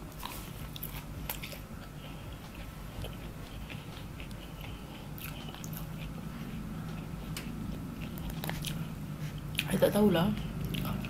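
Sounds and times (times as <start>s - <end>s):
person chewing rice: 0.0s - 9.7s, 10.4s - 11.0s.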